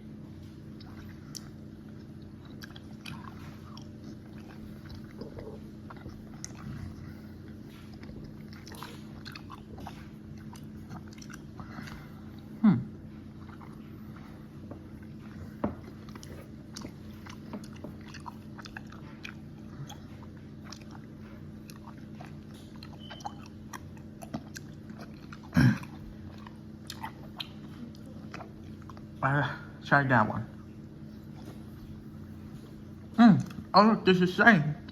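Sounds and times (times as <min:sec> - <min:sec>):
chewing gummy candy: 0:00.0 - 0:34.2.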